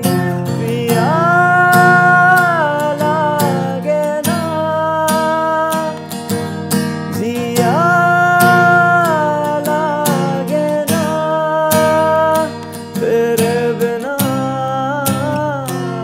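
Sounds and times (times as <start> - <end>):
man singing wordless notes: 0.0 - 6.1, 7.0 - 16.0
acoustic guitar strumming: 0.0 - 16.0.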